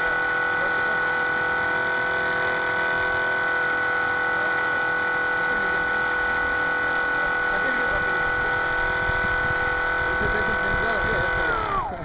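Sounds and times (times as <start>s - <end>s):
model boat motor whining: 0.0s - 12.0s.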